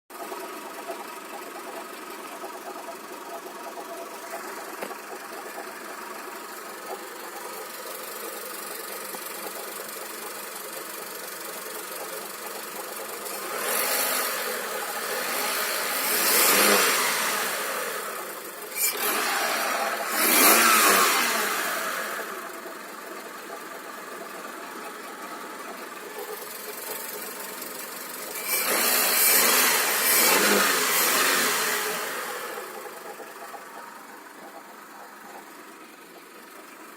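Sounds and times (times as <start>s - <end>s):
car engine revving with knocking: 0.1s - 36.9s.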